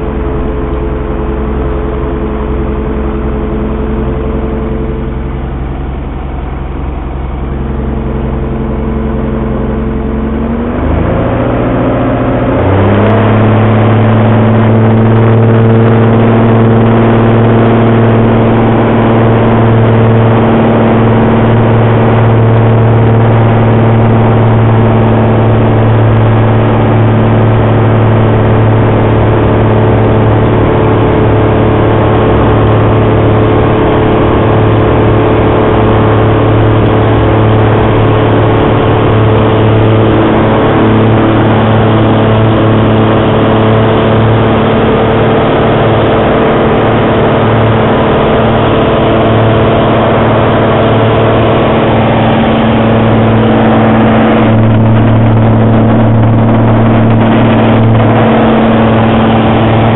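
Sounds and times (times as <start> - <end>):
propeller airplane engine: 0.0 - 59.9.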